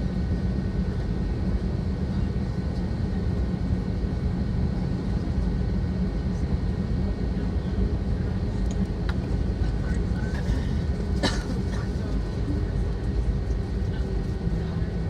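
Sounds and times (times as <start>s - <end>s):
jet engines low rumble: 0.0s - 15.0s.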